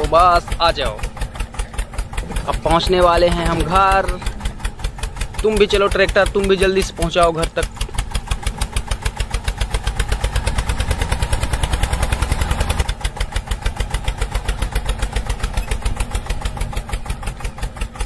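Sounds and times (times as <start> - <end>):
toy tractor engine chugging: 0.0 - 18.0.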